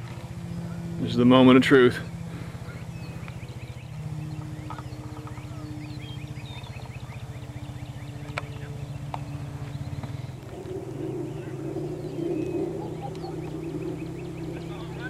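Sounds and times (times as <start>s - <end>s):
motor humming with fast pulse: 0.0s - 15.0s
small birds chirping: 0.0s - 15.0s.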